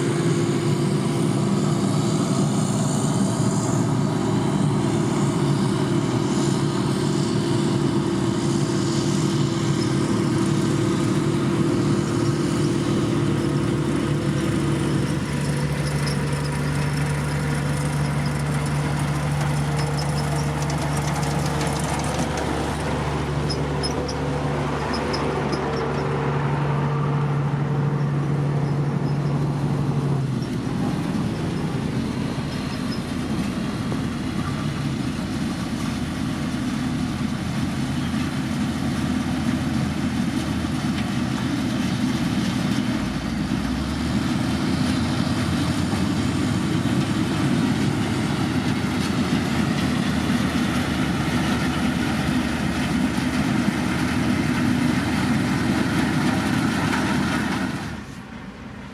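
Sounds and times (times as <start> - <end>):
diesel engine rumbling: 0.0 - 58.9.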